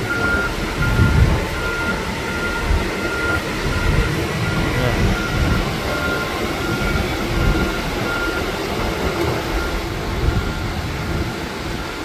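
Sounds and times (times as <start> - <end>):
forklift backup alarm beeping: 0.0 - 12.0.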